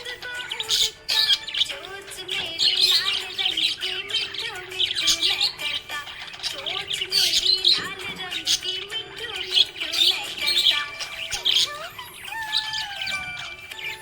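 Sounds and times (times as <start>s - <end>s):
budgerigars chirping and warbling: 0.0s - 14.0s.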